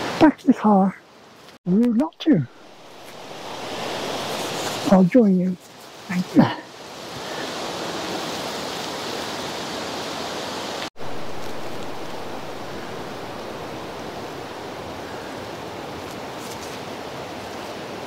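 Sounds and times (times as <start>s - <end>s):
river water rushing: 2.1s - 18.0s.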